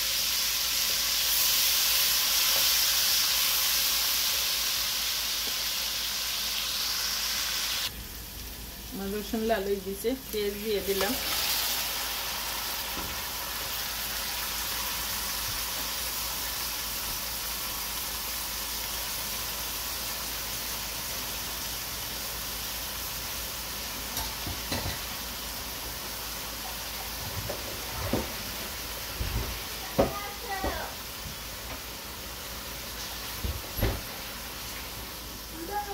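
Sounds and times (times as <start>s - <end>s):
onions sizzling in oil: 0.0s - 35.9s.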